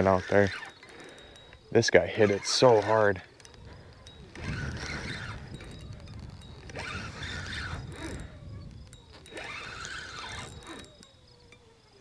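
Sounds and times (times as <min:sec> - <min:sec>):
fishing reel ratcheting: 0:00.0 - 0:11.6.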